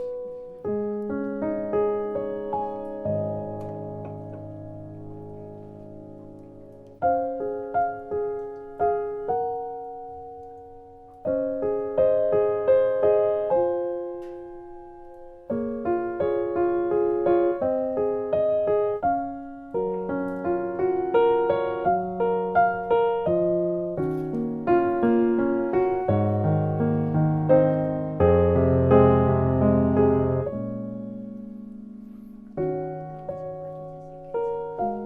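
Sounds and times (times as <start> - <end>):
solo piano melody: 0.0 - 35.0.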